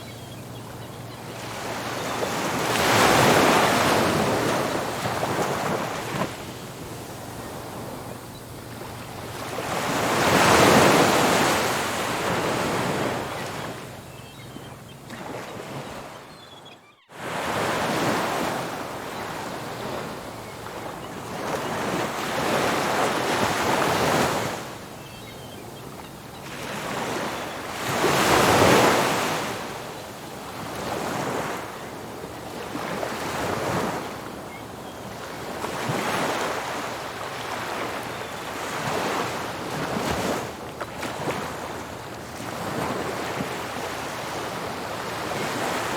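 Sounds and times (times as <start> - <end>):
ocean waves breaking on beach: 0.0 - 14.1, 17.1 - 25.0, 25.6 - 45.9.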